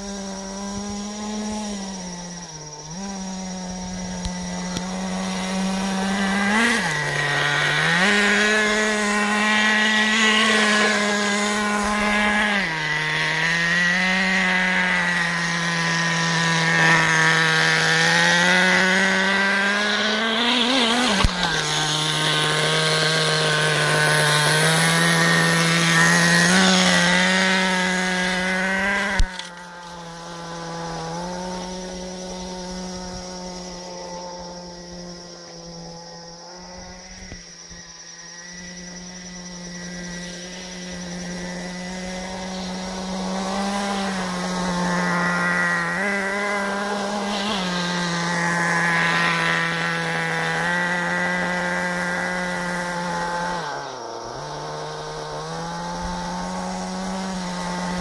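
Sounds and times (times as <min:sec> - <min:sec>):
small buggy engine revving: 0:00.0 - 0:58.0.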